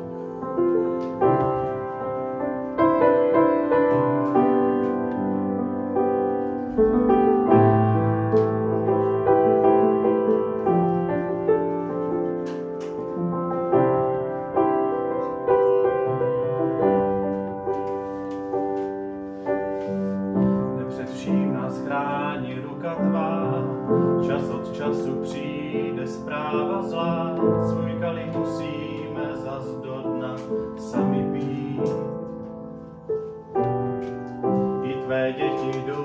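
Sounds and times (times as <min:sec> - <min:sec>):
upright piano playing: 0:00.0 - 0:36.0.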